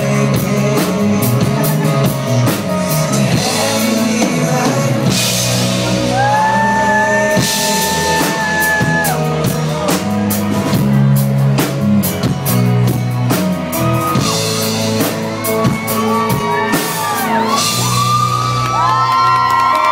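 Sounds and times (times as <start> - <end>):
drum kit steady beat: 0.0 - 19.9
live pop-rock band playing: 0.0 - 19.9.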